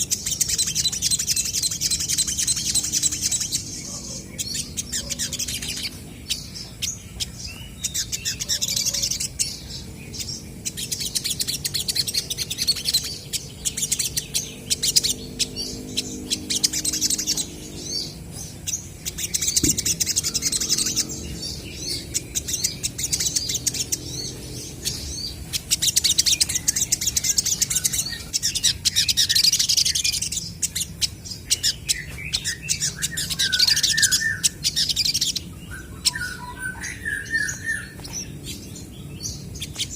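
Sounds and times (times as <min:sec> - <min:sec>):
sunbirds twittering: 0:00.0 - 0:39.9.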